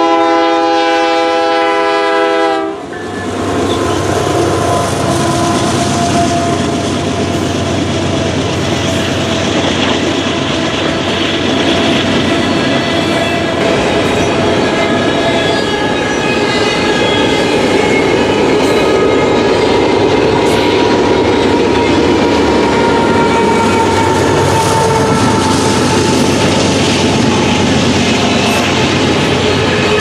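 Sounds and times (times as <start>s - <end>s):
freight train wheels clattering: 2.8s - 30.0s.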